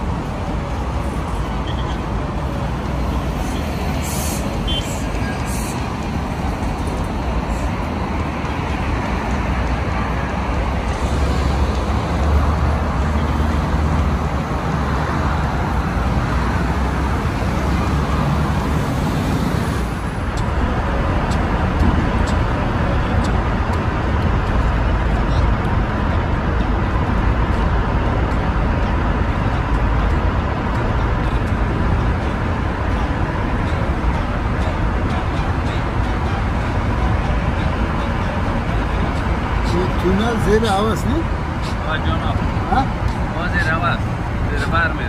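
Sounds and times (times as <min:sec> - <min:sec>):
road vehicle rumble and hiss: 0:00.0 - 0:45.0.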